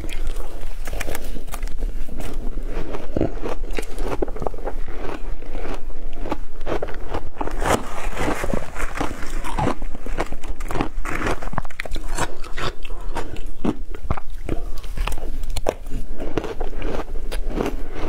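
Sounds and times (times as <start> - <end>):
crunching and chewing ice: 0.0 - 18.0.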